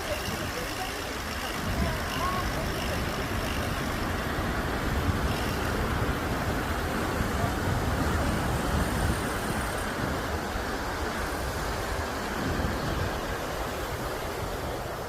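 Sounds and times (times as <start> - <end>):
wind and bicycle tyres rushing: 0.0 - 15.0
wind rumble on microphone: 0.0 - 15.0.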